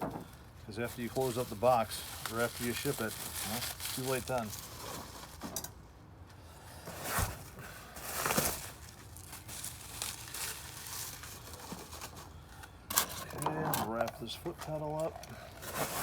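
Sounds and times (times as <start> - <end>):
packing materials rustling: 0.8 - 5.7, 6.9 - 16.0.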